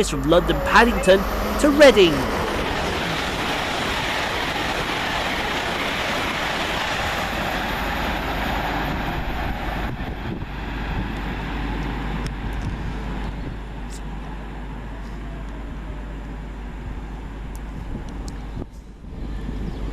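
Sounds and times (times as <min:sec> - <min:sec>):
train wheel and air noise: 0:00.0 - 0:19.9.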